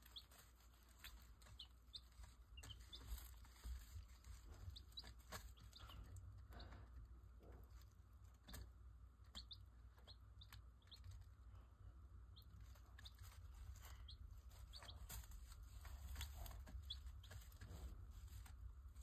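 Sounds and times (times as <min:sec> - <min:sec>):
chicks peeping: 0:00.0 - 0:19.0
low steady hum: 0:00.0 - 0:19.0.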